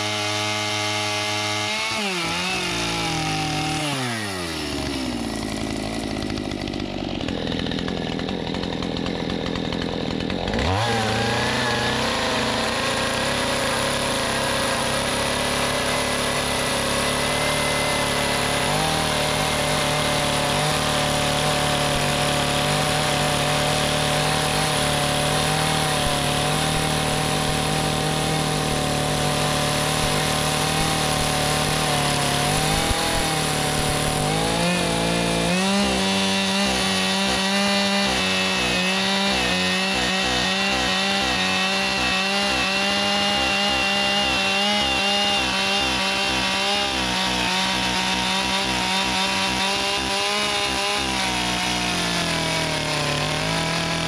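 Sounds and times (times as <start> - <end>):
chainsaw sawing into log: 0.0 - 54.0.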